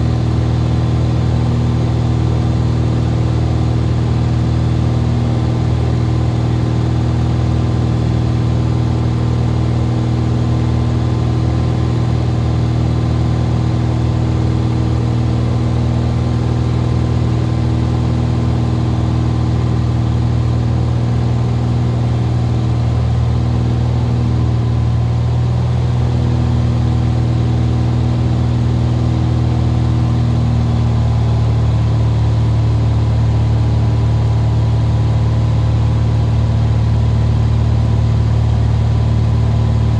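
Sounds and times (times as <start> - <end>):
airplane engine drone in cockpit: 0.0 - 39.9.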